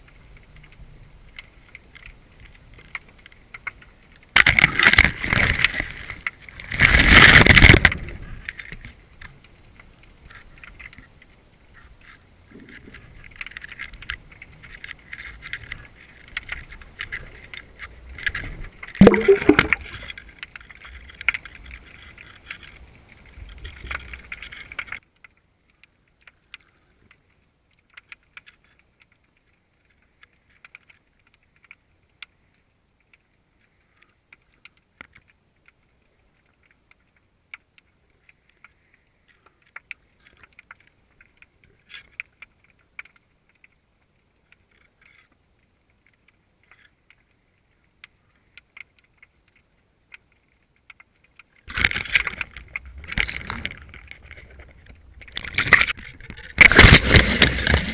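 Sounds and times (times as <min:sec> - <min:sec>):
faint underwater clicking and crackling: 0:00.0 - 0:57.9.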